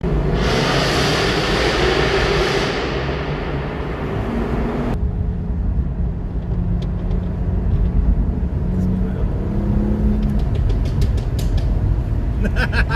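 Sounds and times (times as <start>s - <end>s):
car engine rushing: 0.0s - 12.9s.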